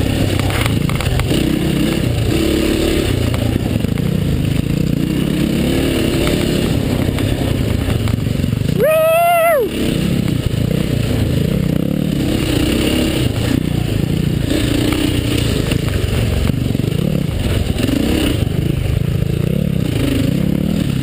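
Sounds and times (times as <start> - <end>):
bike rattling and scraping: 0.0 - 8.8, 9.7 - 21.0
dirt bike engine revving: 0.0 - 21.0.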